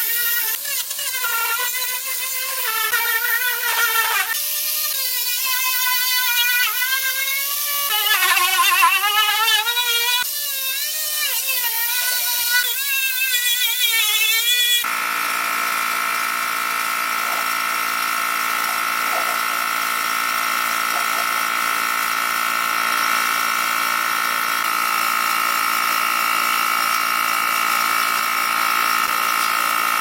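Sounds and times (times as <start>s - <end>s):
power tool motor whine: 0.0s - 30.0s.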